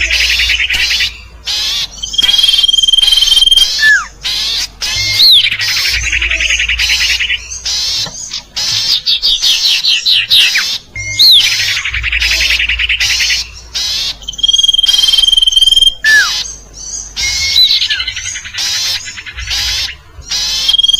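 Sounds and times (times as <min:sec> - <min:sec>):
bird calls with trills: 0:00.0 - 0:20.9.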